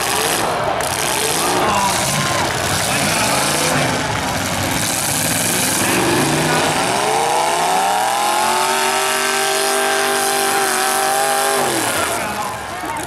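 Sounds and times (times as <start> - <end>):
car engine revving: 0.0 - 12.6
din of other engines: 0.0 - 13.0.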